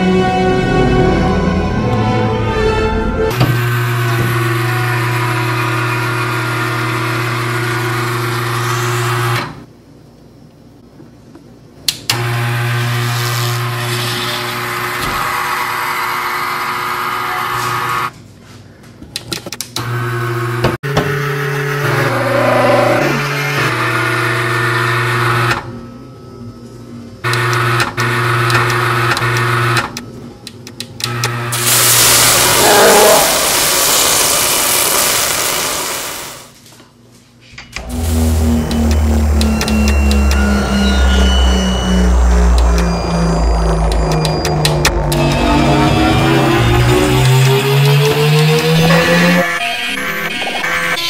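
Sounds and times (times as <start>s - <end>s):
electrical machine hum: 3.3s - 35.9s, 36.9s - 49.6s.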